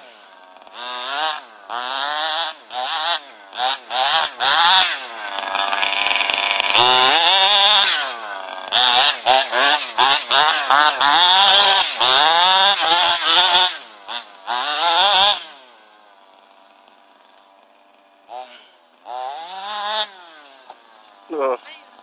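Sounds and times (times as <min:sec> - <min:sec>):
two-stroke engine revving: 0:00.0 - 0:22.0.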